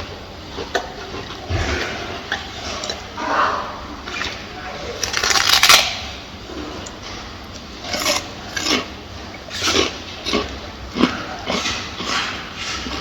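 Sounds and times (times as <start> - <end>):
gorilla chewing: 0.0 - 13.0.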